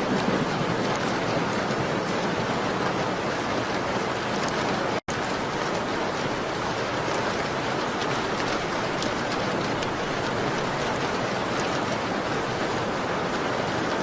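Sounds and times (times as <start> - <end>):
rain on a window: 0.0 - 14.0
ticks of raindrops: 0.0 - 14.0.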